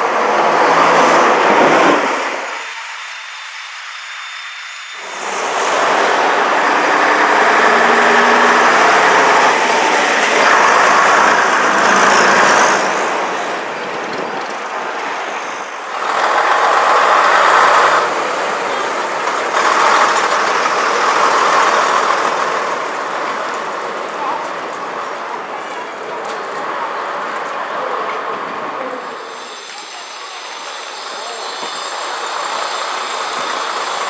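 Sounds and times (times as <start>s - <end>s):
bus diesel engines: 0.0s - 34.0s
street traffic noise: 0.0s - 34.0s.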